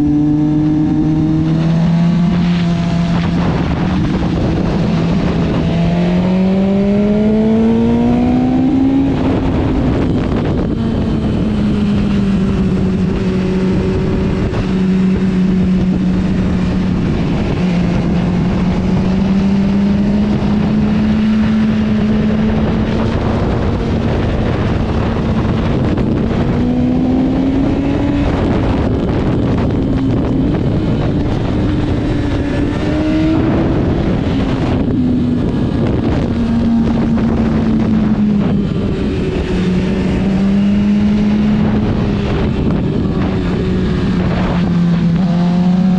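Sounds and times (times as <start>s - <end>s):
motorcycle engine running: 0.0s - 45.9s
wind rush on microphone: 0.0s - 45.9s.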